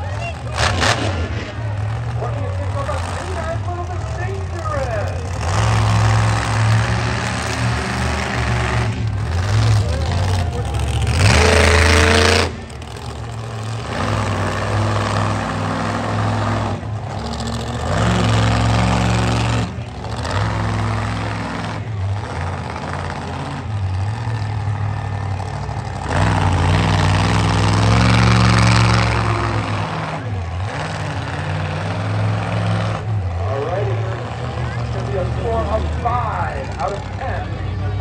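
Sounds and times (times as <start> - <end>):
truck engine revving: 0.0 - 38.0.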